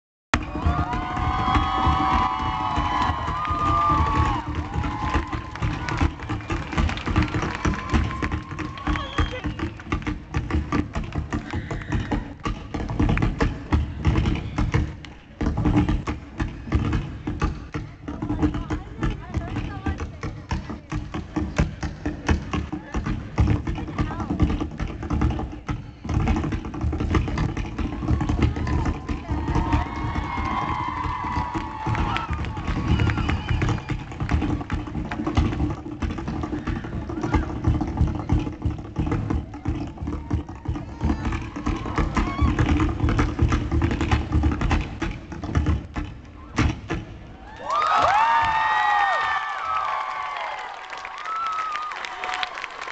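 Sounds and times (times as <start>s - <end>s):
tap shoes on stage floor: 0.4s - 52.9s.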